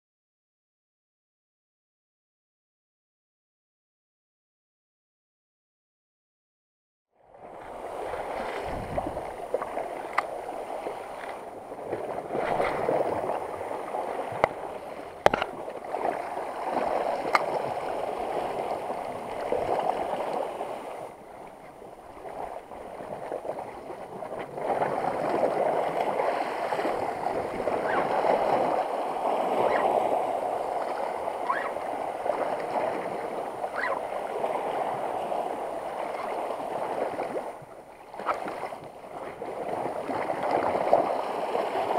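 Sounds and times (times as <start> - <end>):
water lapping against rocks: 7.4 - 41.9.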